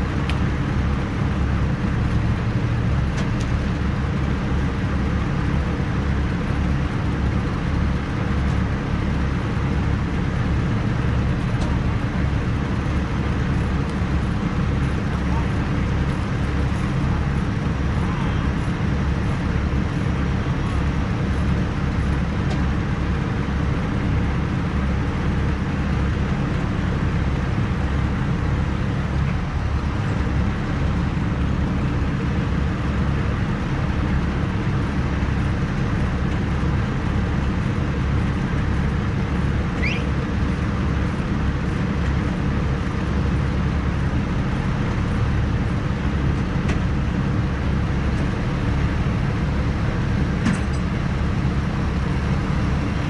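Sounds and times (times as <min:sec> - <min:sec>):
heavy engine running: 0:00.0 - 0:53.0.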